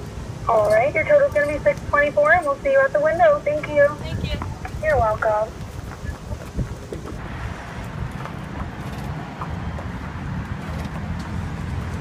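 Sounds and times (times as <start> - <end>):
horse hooves on pavement: 0.0 - 12.0
low outdoor rumble: 0.0 - 12.0.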